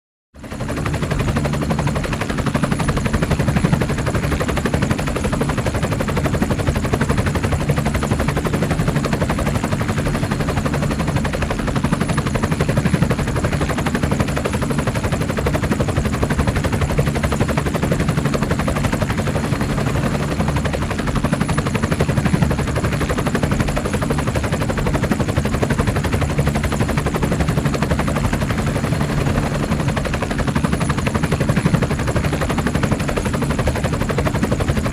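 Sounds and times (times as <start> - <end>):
helicopter rotor blades chopping: 0.4 - 34.9
low turbine drone: 0.4 - 34.9.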